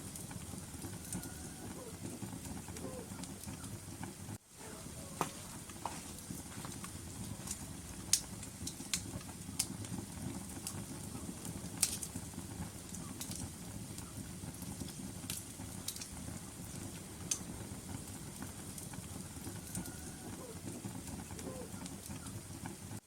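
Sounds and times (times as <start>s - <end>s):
fire rumbling: 0.0s - 23.0s
wood crackling and popping: 0.0s - 23.0s.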